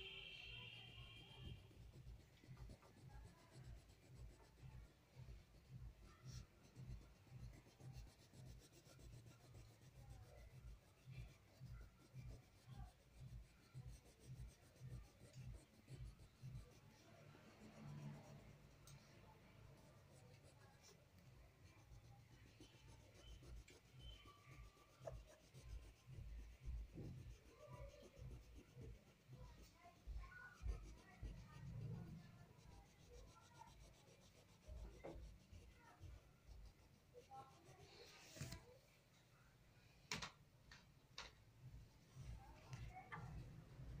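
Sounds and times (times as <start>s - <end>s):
crayon scratching on paper: 0.0s - 38.8s, 42.0s - 44.0s.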